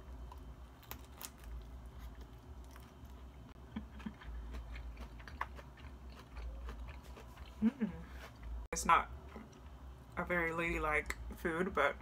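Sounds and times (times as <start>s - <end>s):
chewing with crisp crunches: 0.0s - 9.8s.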